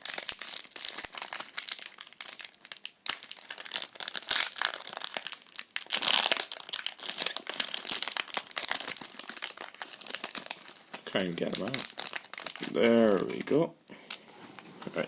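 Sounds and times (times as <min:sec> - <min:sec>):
foil wrapper crinkling and tearing: 0:00.0 - 0:13.5.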